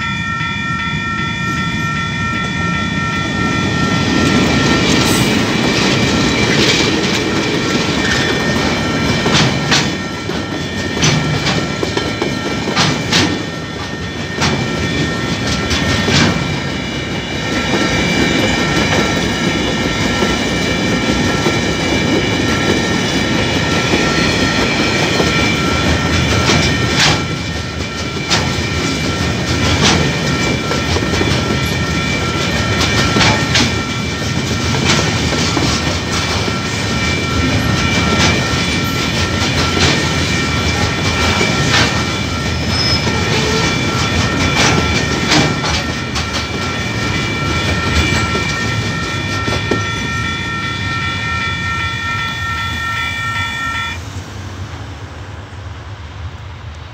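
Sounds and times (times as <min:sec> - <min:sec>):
crossing warning bells ringing: 0:00.0 - 0:55.7
freight train rumbling past: 0:00.0 - 0:56.9
wheels clacking over rail joints: 0:04.0 - 0:50.2.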